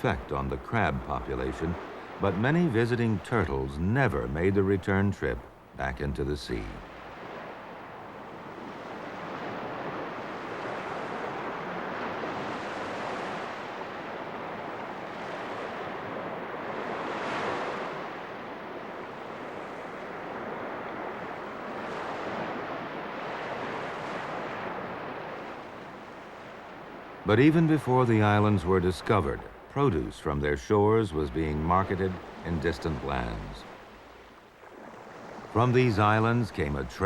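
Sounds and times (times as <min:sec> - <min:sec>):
ocean surf breaking on shore: 0:00.0 - 0:37.0.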